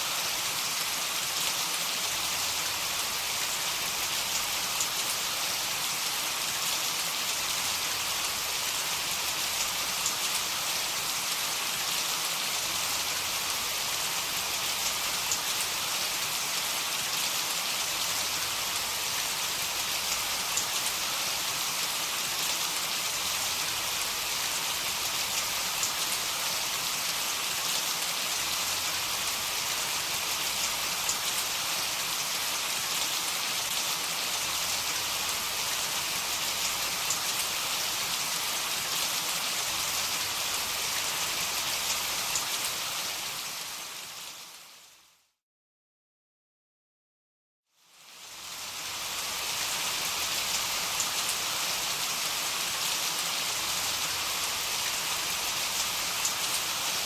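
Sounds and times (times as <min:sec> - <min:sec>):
heavy rain falling: 0:00.1 - 0:44.6, 0:48.4 - 0:57.0.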